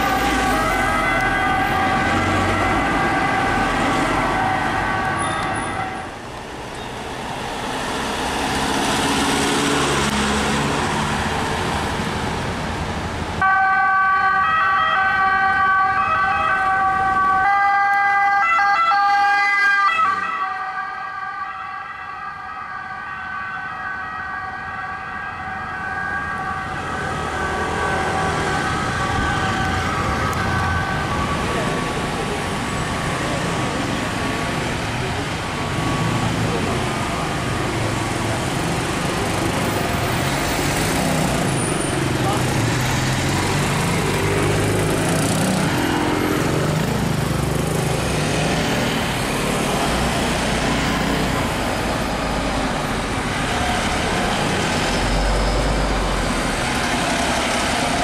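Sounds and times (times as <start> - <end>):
emergency vehicle sirens: 0.0 - 58.0
engine and road noise: 0.0 - 58.0.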